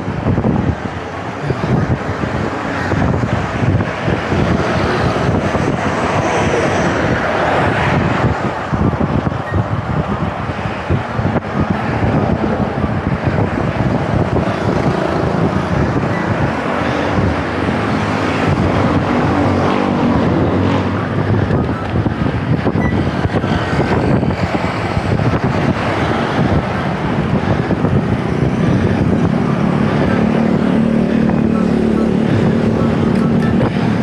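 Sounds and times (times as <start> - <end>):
motor vehicles passing: 0.0 - 34.0
wind noise on microphone: 0.0 - 34.0.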